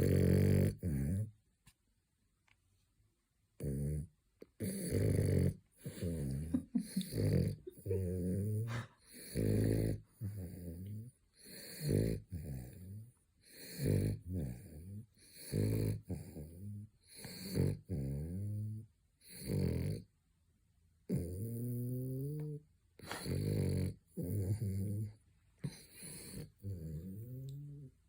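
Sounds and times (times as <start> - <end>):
dog snoring: 0.0 - 1.3, 3.6 - 20.1, 21.1 - 28.0.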